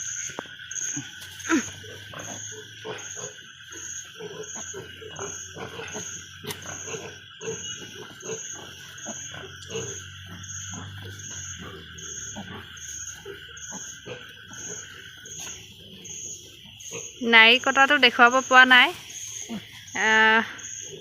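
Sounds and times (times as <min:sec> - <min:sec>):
pigs grunting: 0:00.7 - 0:18.2, 0:19.0 - 0:21.0.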